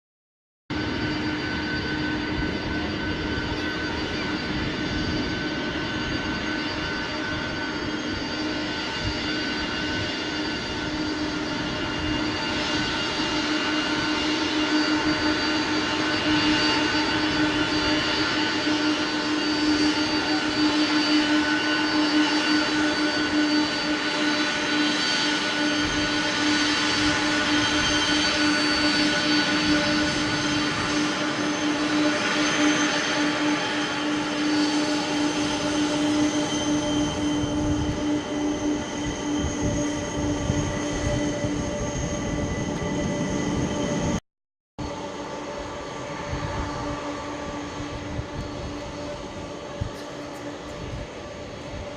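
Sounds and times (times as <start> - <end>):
jet engines whining: 0.7 - 44.2, 44.8 - 51.9.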